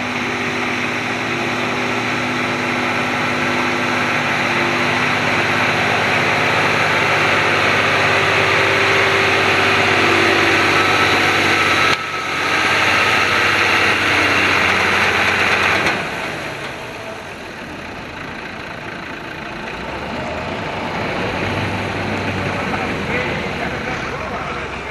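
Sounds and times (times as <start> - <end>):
vehicle engine running hard: 0.0 - 24.9.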